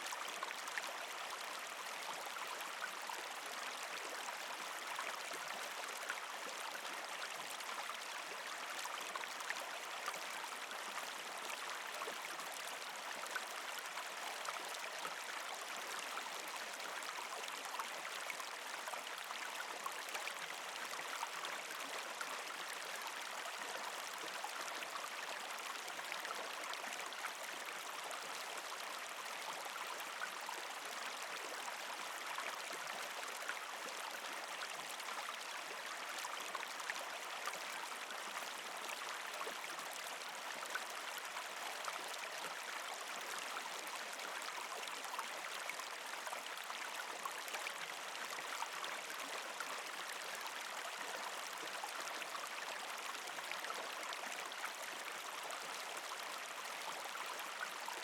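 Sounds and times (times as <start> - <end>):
creek flowing over rocks: 0.0 - 58.0.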